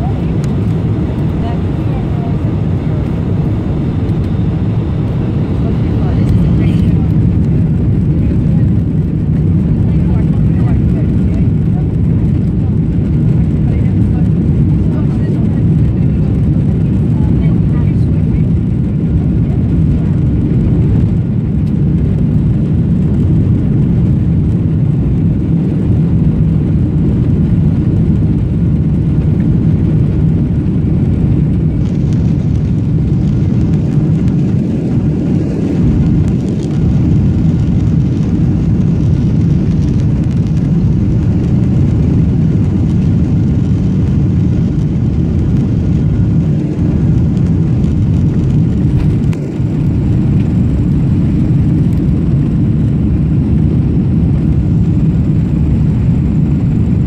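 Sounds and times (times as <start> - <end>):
jet airliner rumble from cabin: 0.0 - 57.0.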